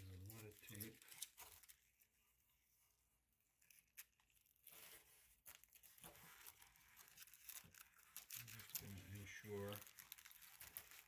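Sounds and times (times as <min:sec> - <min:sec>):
plastic packaging crinkling: 0:00.0 - 0:02.1, 0:03.6 - 0:11.0.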